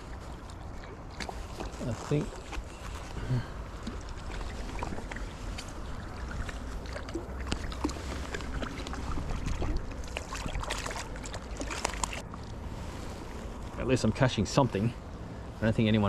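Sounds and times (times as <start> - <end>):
steady low rumble: 0.0 - 16.0
water lapping and trickling: 0.0 - 16.0.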